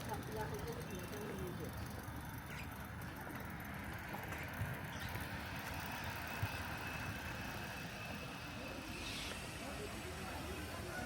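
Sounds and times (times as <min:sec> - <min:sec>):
street low rumble: 0:00.0 - 0:11.0.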